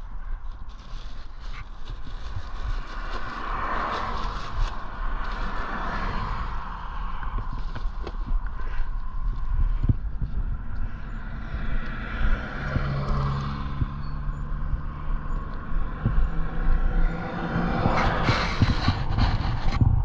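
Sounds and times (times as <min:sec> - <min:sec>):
low traffic rumble: 0:00.0 - 0:20.0
vehicle engine hum: 0:00.0 - 0:20.0
passing vehicle rush: 0:01.9 - 0:20.0.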